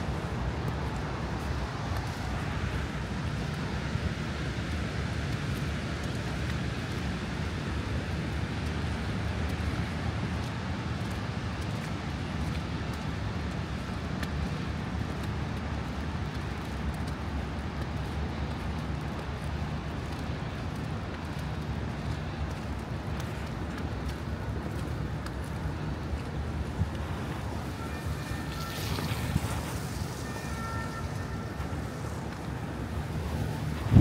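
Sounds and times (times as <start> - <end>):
city traffic noise: 0.0 - 34.0
wind rumbling on microphone: 0.0 - 34.0.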